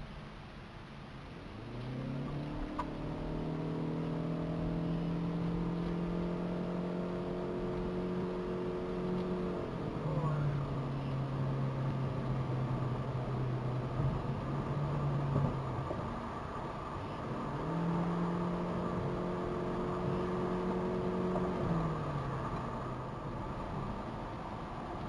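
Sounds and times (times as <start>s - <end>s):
car engine in cabin: 0.0s - 25.0s
tyre road noise: 0.0s - 25.0s.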